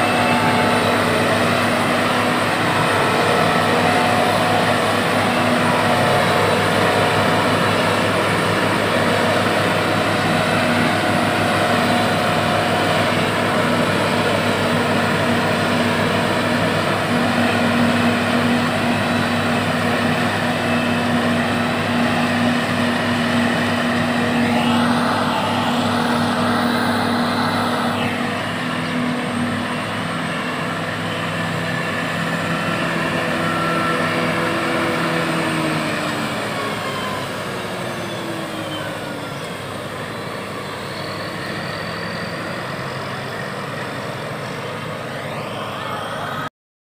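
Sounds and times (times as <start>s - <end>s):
harvester mechanical drone: 0.0s - 46.5s
higher wavering whine: 0.0s - 46.5s.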